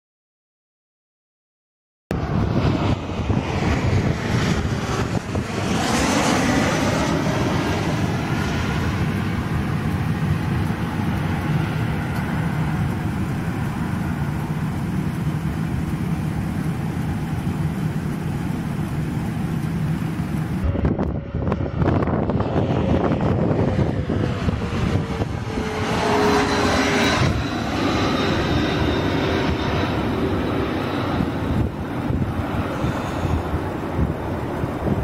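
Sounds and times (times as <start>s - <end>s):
jet engines passing overhead: 2.1s - 35.0s.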